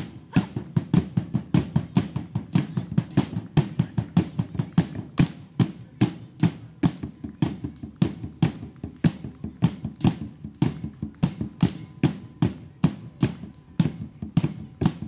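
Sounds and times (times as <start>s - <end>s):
drums and gongs beating: 0.0s - 15.0s.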